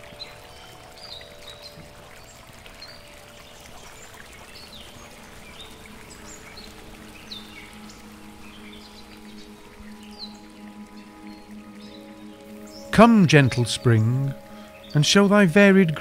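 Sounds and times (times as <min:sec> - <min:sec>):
running water: 0:00.0 - 0:16.0
small birds chirping: 0:00.0 - 0:16.0
soft background music: 0:00.0 - 0:16.0.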